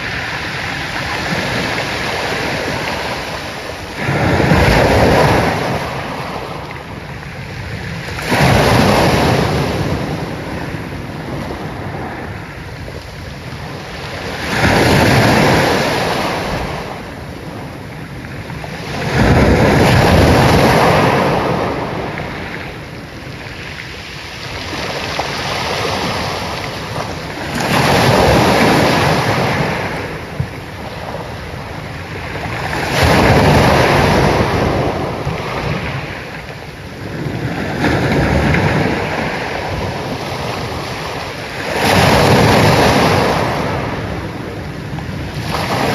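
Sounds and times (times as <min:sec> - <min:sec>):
ocean waves surging: 0:00.0 - 0:45.9.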